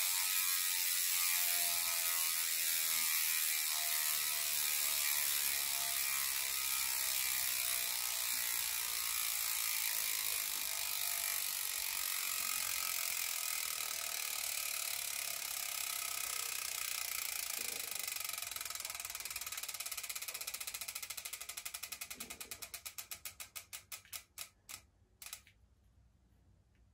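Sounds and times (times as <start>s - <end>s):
bike freehub ratcheting clicks: 0.0s - 25.5s.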